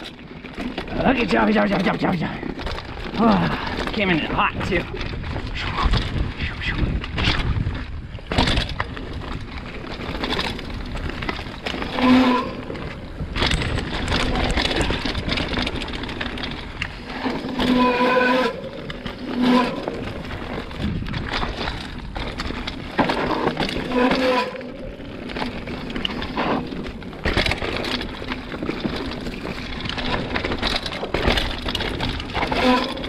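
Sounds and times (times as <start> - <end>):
bike rattling and knocking: 0.0 - 33.0
wind and tyre noise: 0.0 - 33.0.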